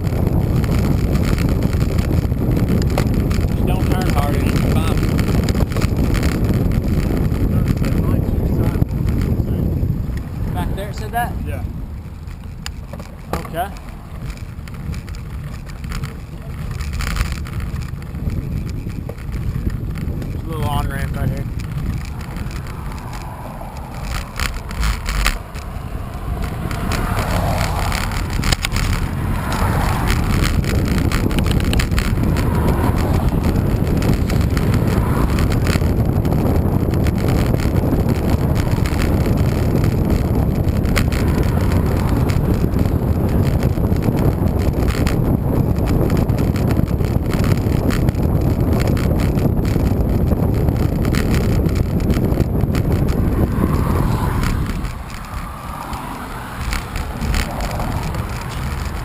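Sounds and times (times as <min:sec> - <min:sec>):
bicycle tyre and road noise: 0:00.0 - 0:59.0
wind rumbling on microphone: 0:00.0 - 0:59.0.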